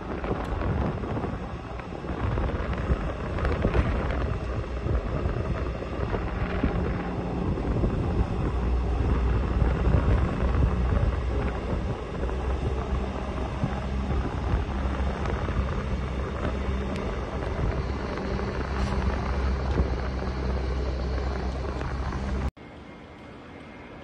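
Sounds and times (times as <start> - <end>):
wind buffeting microphone: 0.0 - 22.6
faint hum: 0.0 - 24.0
low rumbling drone: 0.0 - 24.0.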